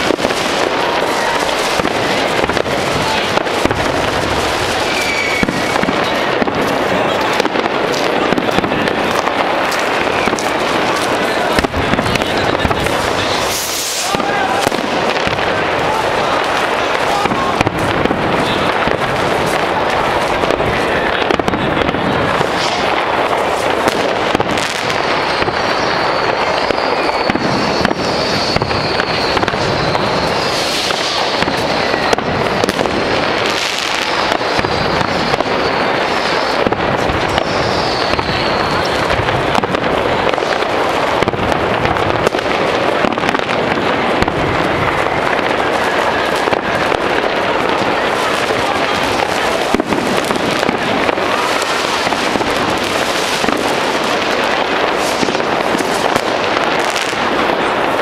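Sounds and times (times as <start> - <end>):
fireworks bangs and crackling: 0.0 - 58.0
high firework whistle: 0.0 - 58.0.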